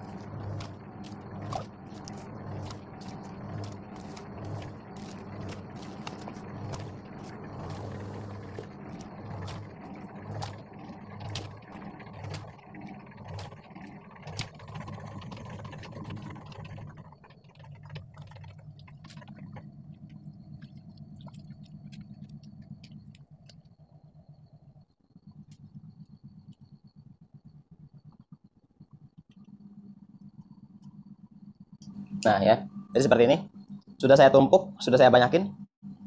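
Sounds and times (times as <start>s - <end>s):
refrigeration unit humming: 0.0s - 36.0s.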